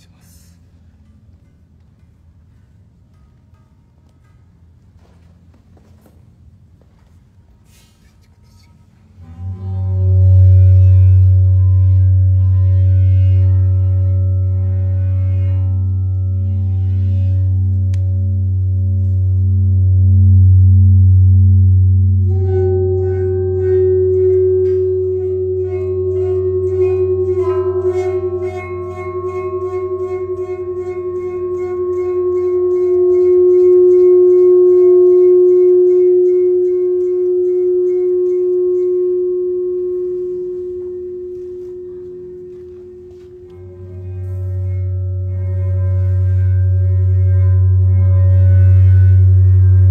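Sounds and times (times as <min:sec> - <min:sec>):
metal plate singing tones: 0:07.6 - 0:49.9.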